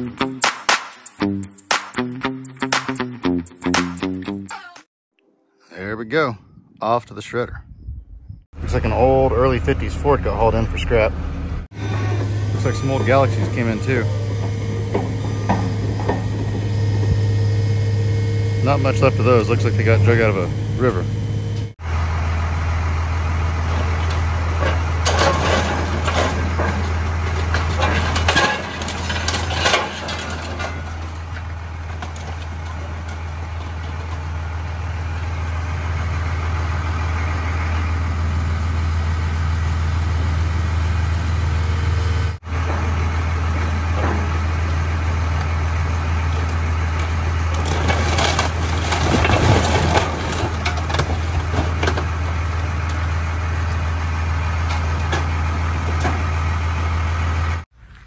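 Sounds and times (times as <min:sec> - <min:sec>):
scrap metal crunching: 0:08.6 - 0:39.8, 0:42.4 - 0:58.0
heavy machinery droning: 0:08.6 - 0:58.0.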